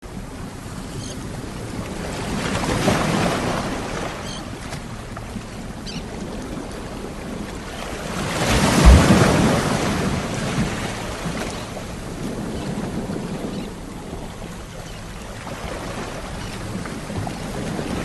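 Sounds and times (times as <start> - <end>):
ocean waves breaking: 0.1 - 18.0.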